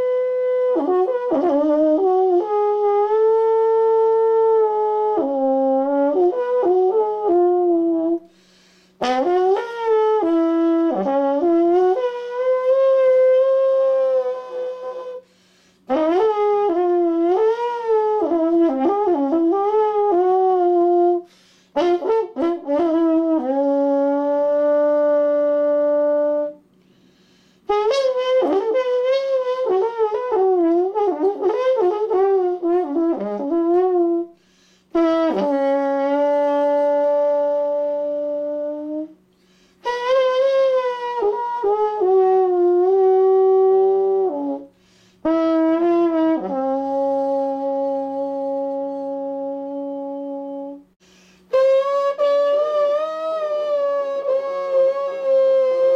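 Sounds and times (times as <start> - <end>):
trombone solo: 0.0 - 8.3, 9.0 - 26.7, 27.6 - 55.9.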